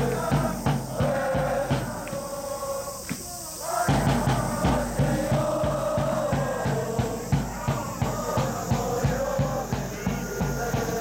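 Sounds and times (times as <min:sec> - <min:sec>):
crowd chanting: 0:00.0 - 0:11.0
drum beaten steadily: 0:00.0 - 0:11.0.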